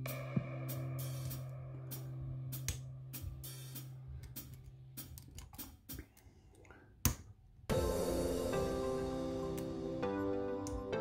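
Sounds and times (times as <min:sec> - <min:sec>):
background music with drums: 0:00.0 - 0:06.0, 0:07.7 - 0:11.0
music: 0:00.0 - 0:06.0, 0:07.7 - 0:11.0.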